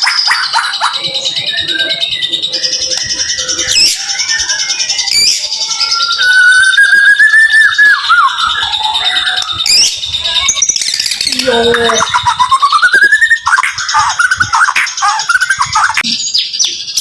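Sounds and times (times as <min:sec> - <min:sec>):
bird whistle: 0:00.0 - 0:17.0
songbird singing rapid notes: 0:00.0 - 0:17.0.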